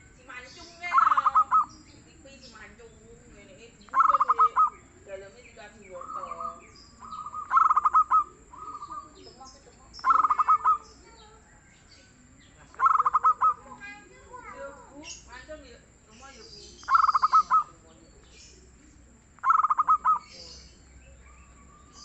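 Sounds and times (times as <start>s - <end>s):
dove cooing: 0.0s - 15.3s, 16.7s - 22.0s.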